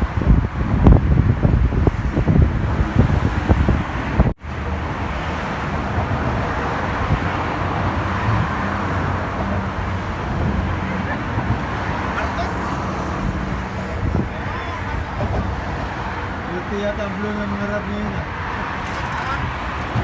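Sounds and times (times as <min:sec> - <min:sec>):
wind buffeting microphone: 0:00.0 - 0:16.7, 0:18.1 - 0:20.0
road traffic rumble: 0:00.0 - 0:20.0.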